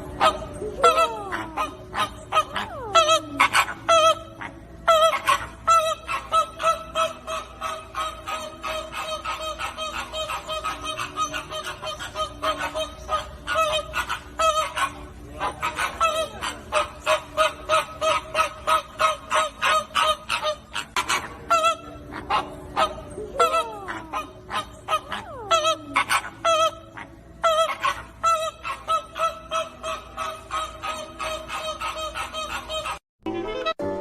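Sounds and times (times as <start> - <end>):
flock of flamingos honking: 0.0 - 34.0.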